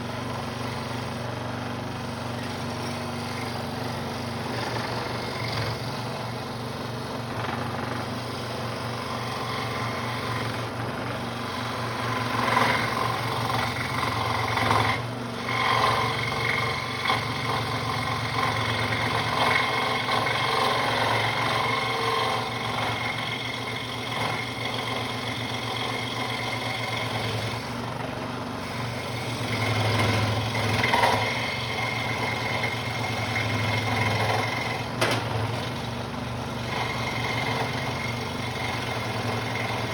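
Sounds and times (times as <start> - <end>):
saw blade buzzing: 0.0 - 39.9
saw blade rasping through wood: 0.0 - 39.9
scroll saw motor hum: 0.0 - 39.9.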